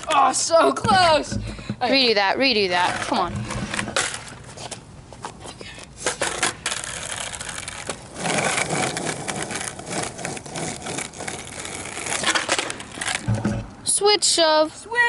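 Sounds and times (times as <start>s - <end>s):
skateboard clacking on pavement: 0.0s - 4.4s, 6.0s - 13.8s
skateboard wheels rolling on asphalt: 0.0s - 15.0s.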